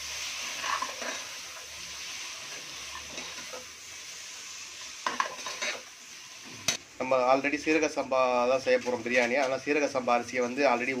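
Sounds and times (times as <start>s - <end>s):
masala sizzling in hot oil: 0.0s - 11.0s.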